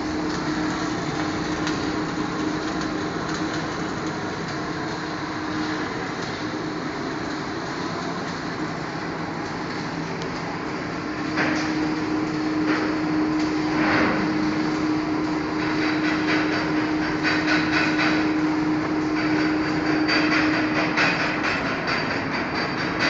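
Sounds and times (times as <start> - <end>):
steady hum: 0.0 - 22.2
welding arc crackling: 0.0 - 23.0.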